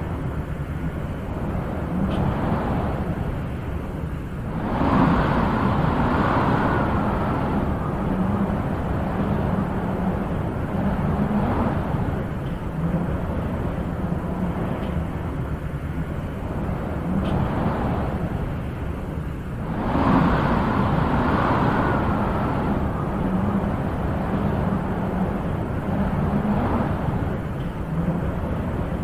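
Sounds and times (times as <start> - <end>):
wind blowing in gusts: 0.0 - 29.0.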